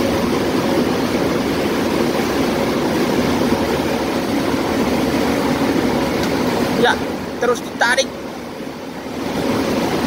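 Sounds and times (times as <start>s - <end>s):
ship engine hum: 0.0s - 10.0s
water rushing past hull: 0.0s - 10.0s.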